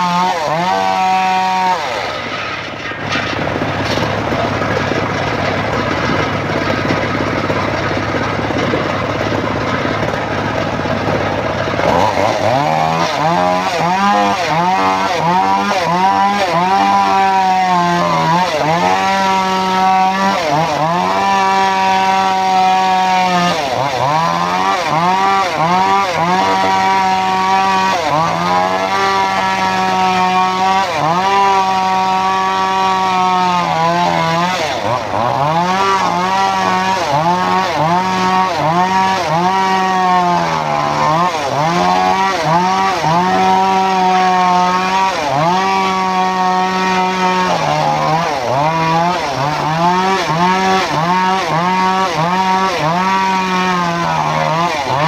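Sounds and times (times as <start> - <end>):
engine-driven circular saw ripping wood: 0.0 - 55.0.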